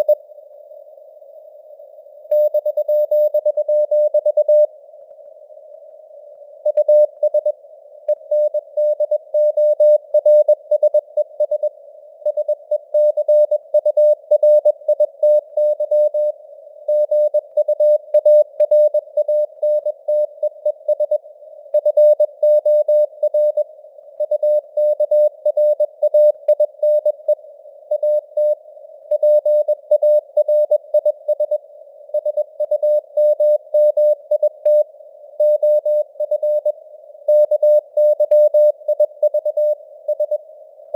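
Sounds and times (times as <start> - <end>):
faint radio noise hiss: 0.0 - 9.3, 9.9 - 12.9, 16.2 - 22.4, 23.0 - 40.9.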